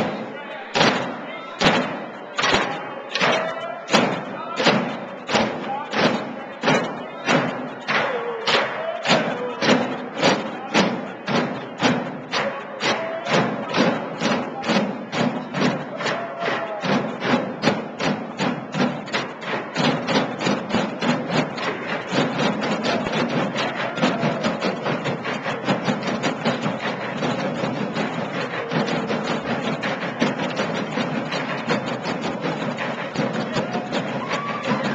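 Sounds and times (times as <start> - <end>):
drumming on plastic containers: 0.0 - 34.9.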